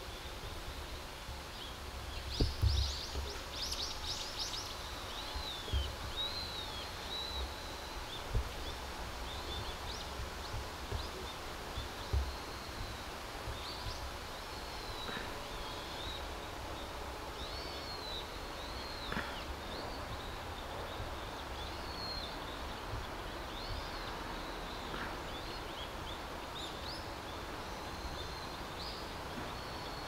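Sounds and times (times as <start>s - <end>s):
small birds chirping and twittering: 0.0s - 30.0s.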